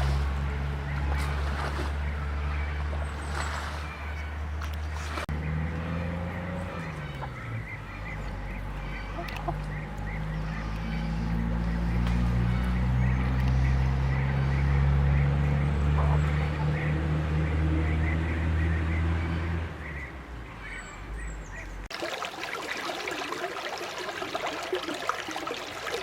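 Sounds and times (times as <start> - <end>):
poultry flock calling: 0.6 - 21.9.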